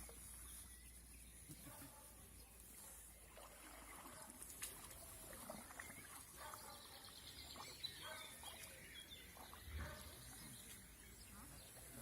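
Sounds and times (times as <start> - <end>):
faint bird calls and chirps: 0.0 - 12.0.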